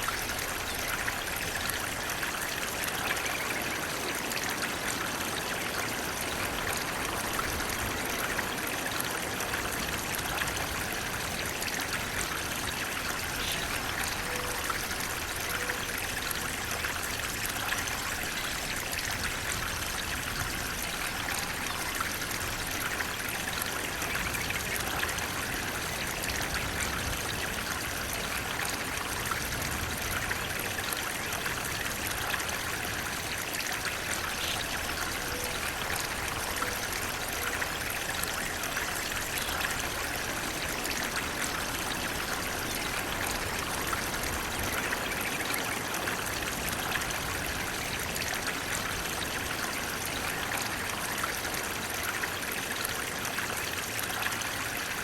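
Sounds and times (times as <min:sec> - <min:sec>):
water flowing: 0:00.0 - 0:55.0.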